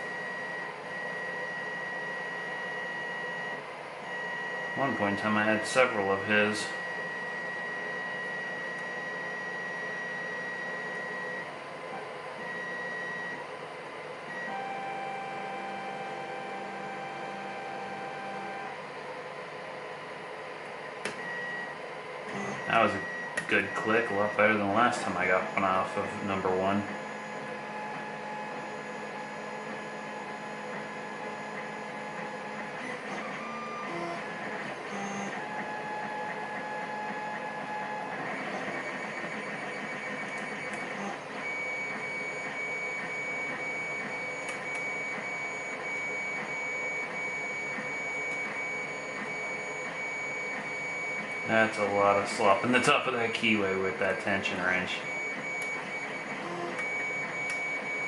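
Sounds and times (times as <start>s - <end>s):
electronic whine: 0.0s - 58.0s
mechanical whirring: 0.0s - 58.0s.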